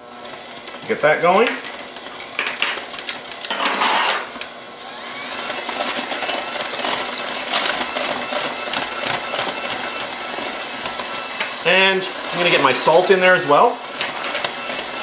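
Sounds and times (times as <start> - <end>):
electric hand mixer whirring: 0.0 - 15.0
mixer rattle: 0.2 - 15.0.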